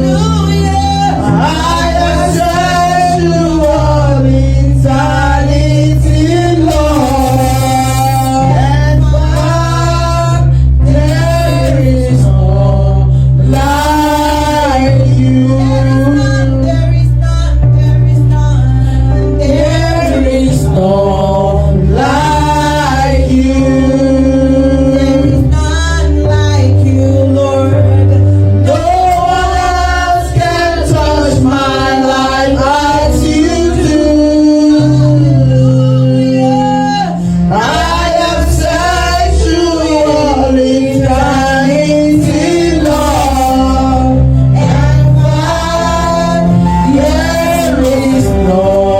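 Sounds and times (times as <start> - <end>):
sustained bass: 0.0 - 48.9
voices singing worship music: 0.0 - 48.9.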